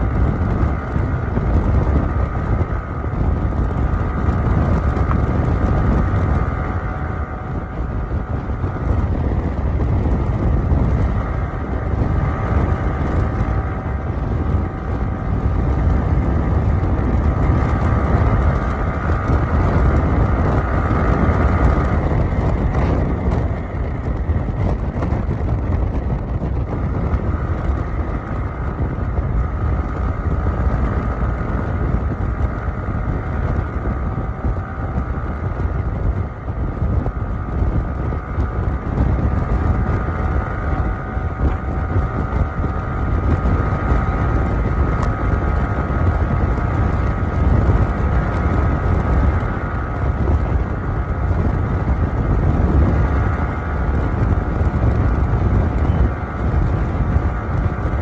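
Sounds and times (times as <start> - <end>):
motorcycle engine hum: 0.0 - 58.0
wind rush over microphone: 0.0 - 58.0.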